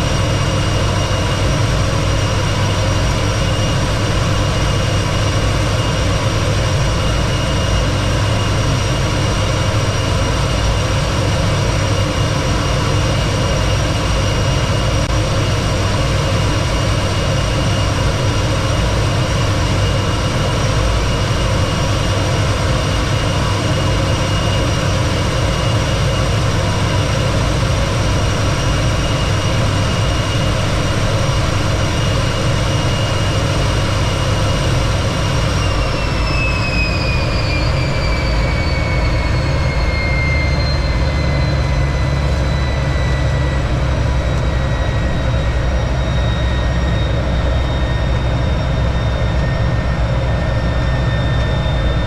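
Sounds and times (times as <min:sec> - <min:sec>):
jet engine roaring with whine: 0:00.0 - 0:52.0.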